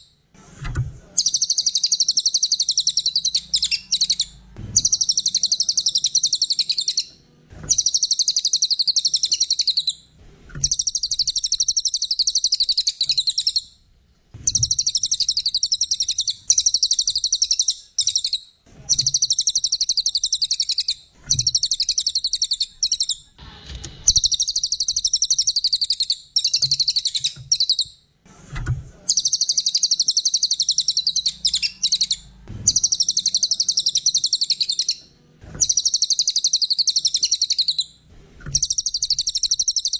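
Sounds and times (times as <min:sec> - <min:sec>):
songbird rapid chattering trill: 0:01.2 - 0:07.1, 0:07.7 - 0:10.0, 0:10.6 - 0:13.7, 0:14.5 - 0:23.2, 0:24.1 - 0:27.8, 0:29.1 - 0:35.0, 0:35.6 - 0:37.9, 0:38.5 - 0:39.9.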